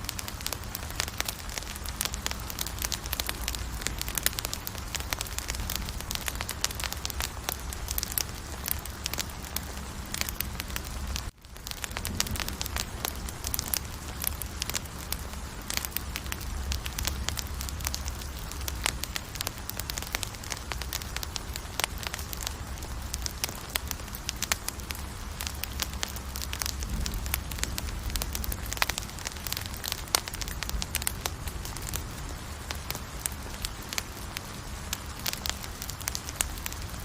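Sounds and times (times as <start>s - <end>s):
low rumble of flames: 0.0s - 37.0s
wood crackling and popping: 0.0s - 37.0s.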